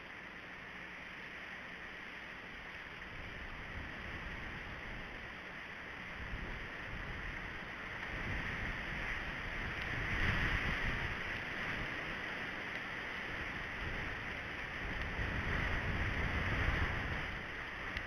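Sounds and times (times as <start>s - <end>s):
outdoor background hiss: 0.0s - 18.0s
wind rumble on microphone: 2.6s - 18.0s.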